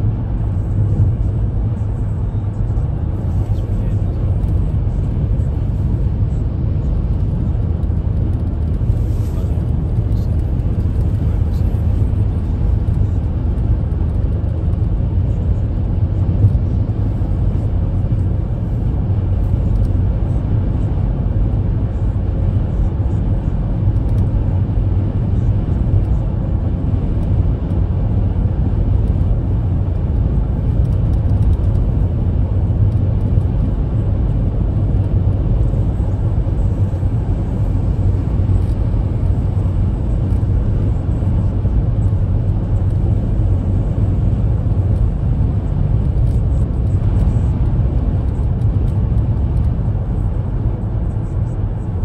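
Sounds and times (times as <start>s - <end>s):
car tyres and engine rumble: 0.0s - 52.0s.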